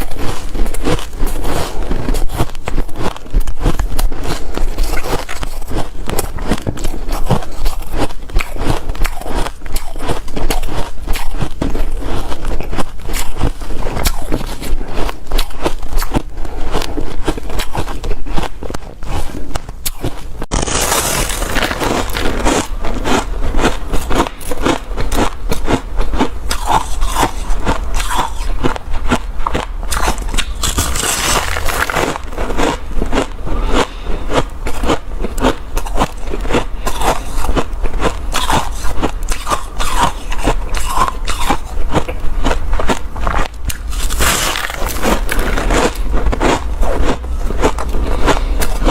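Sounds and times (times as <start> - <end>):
crunching and chewing ice: 0.0 - 48.9.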